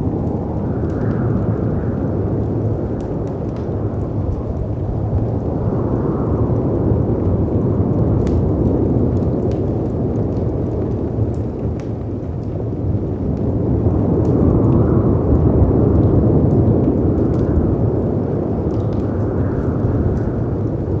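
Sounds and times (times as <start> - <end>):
fireplace crackling: 0.0 - 21.0
howling wind: 0.0 - 21.0.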